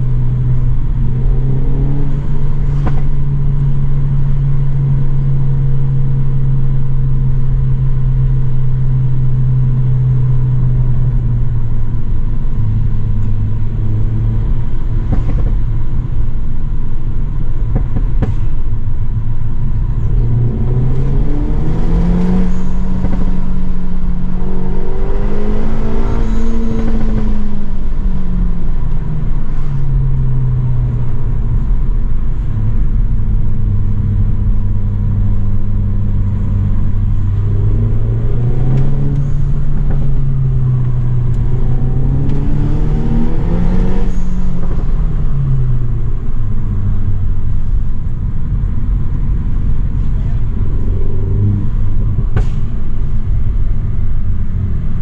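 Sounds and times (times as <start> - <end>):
car engine heard from cabin: 0.0 - 55.0.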